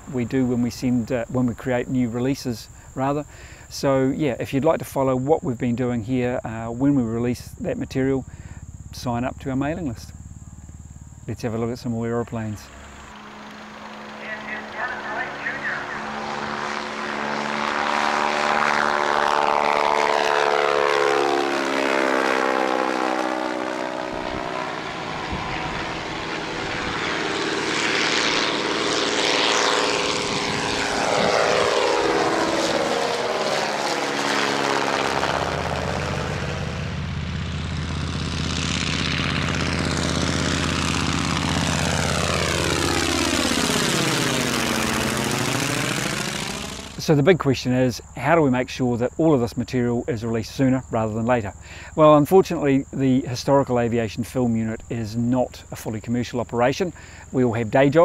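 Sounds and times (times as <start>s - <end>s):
deep steady engine note: 0.0s - 58.0s
propeller aircraft passing: 0.0s - 58.0s.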